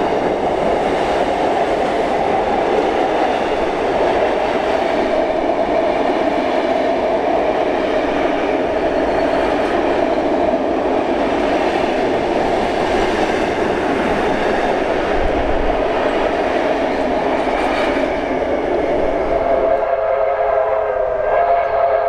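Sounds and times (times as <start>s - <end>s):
train wheels running over rails: 0.0s - 19.8s.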